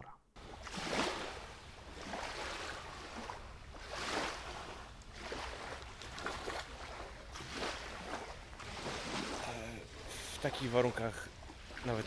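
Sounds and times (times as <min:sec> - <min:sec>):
lake waves lapping at shore: 0:00.4 - 0:12.0.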